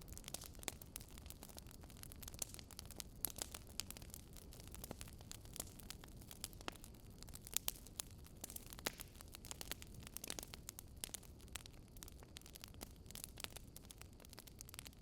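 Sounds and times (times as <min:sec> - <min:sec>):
logs crackling in fireplace: 0:00.0 - 0:15.0.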